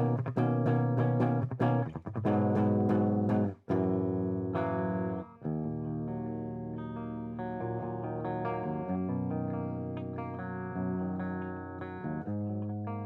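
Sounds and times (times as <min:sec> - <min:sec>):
electric guitar picked notes and chords: 0:00.0 - 0:13.0.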